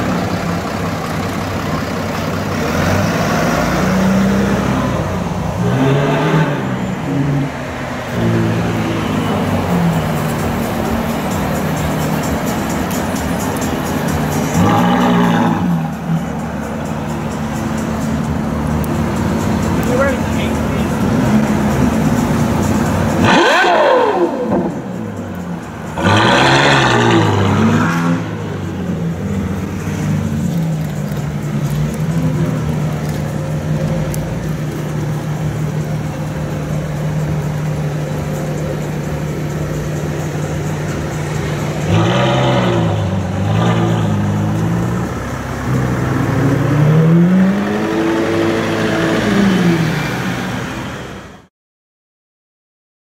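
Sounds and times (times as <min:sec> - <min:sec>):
car engine revving and idling: 0:00.0 - 0:51.5.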